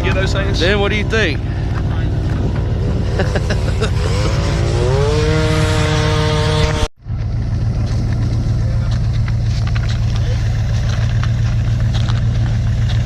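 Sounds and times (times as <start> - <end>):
airboat engine droning: 0.0 - 13.0.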